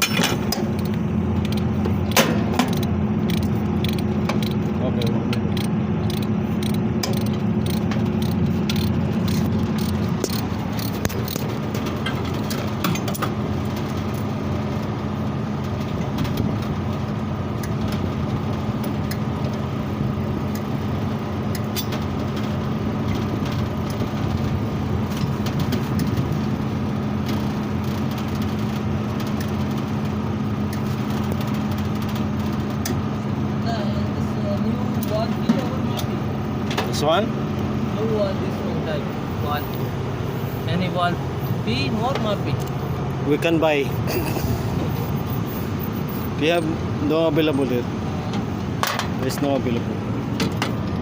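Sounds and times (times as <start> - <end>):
refrigeration machinery hum: 0.0 - 51.0.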